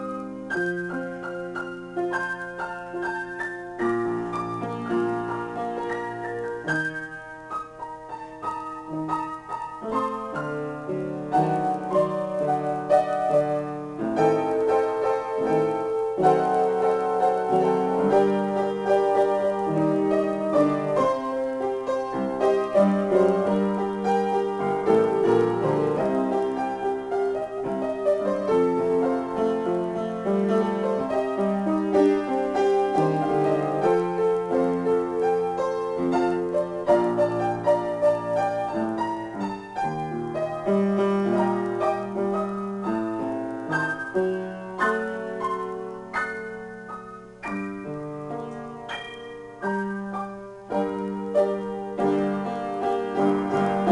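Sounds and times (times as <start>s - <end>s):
solo piano: 0.0s - 53.9s.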